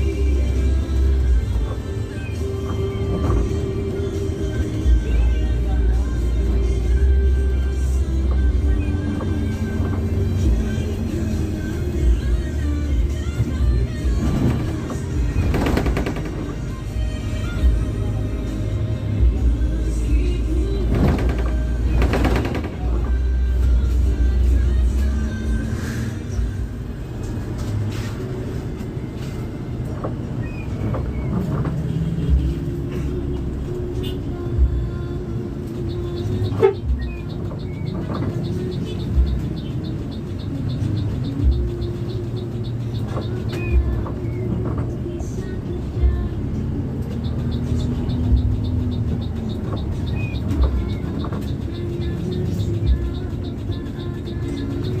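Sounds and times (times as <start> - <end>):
bus engine and road rumble: 0.0 - 55.0
music playing: 0.0 - 55.0.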